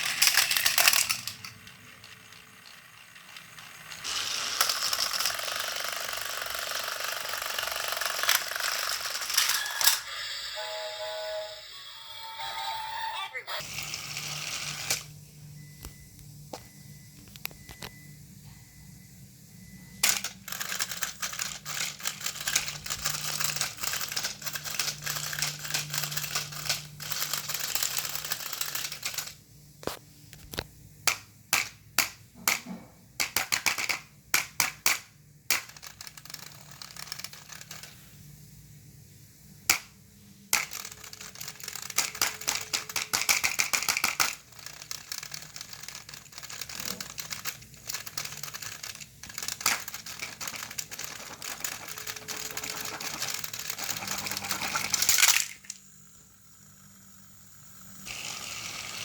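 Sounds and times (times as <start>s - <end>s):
toy train gears rattling: 0.0s - 10.9s, 13.6s - 15.1s, 19.9s - 30.0s, 33.2s - 38.5s, 39.5s - 59.0s.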